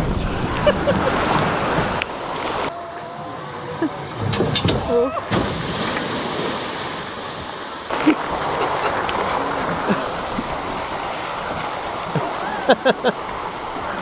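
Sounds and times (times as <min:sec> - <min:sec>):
boat rushing through water: 0:00.0 - 0:14.0.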